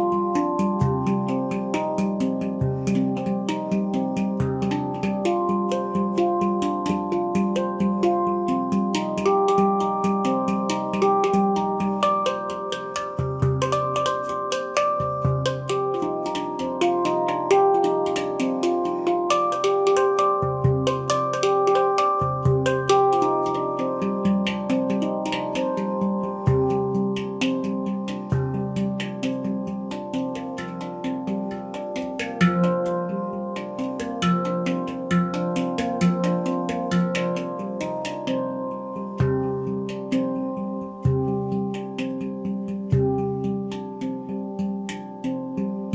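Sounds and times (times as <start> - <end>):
instrumental music: 0.0 - 45.9
ticking beat: 0.0 - 45.9.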